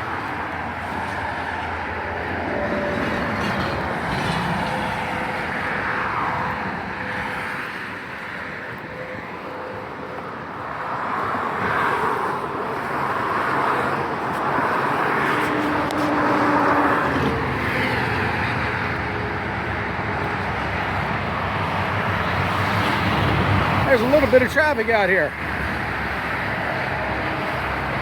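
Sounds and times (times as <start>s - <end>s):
highway traffic rushing: 0.0s - 28.0s.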